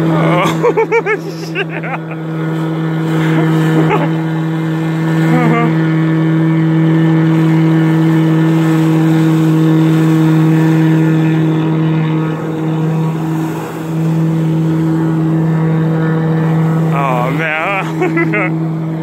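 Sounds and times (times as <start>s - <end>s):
jet ski engine at high revs: 0.0s - 19.0s
water jets hissing: 0.0s - 19.0s.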